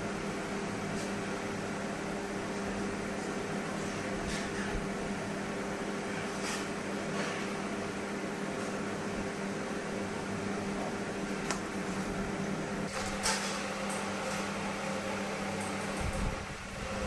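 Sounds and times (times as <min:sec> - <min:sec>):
appliance hum: 0:00.0 - 0:17.0.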